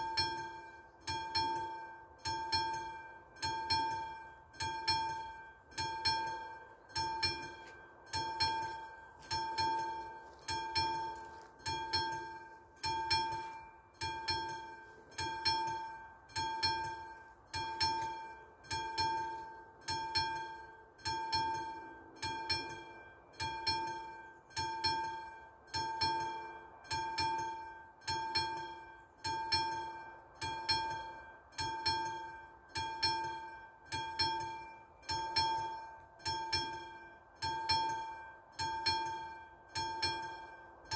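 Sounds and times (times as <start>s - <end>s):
level crossing warning bell: 0.0s - 40.9s.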